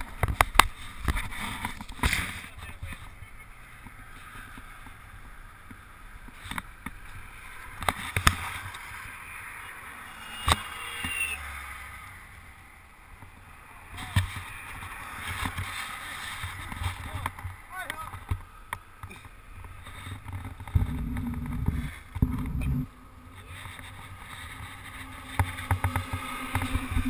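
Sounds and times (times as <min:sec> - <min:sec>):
passing highway traffic: 0:00.0 - 0:27.0
wind: 0:00.0 - 0:27.0.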